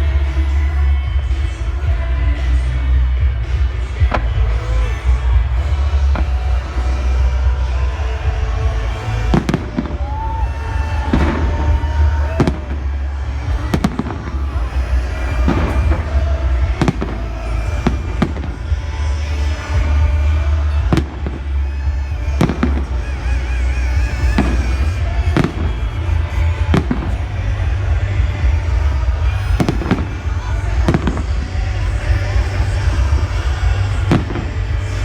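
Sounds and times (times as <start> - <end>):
fireworks banging: 0.0 - 35.0
low rumble: 0.0 - 35.0.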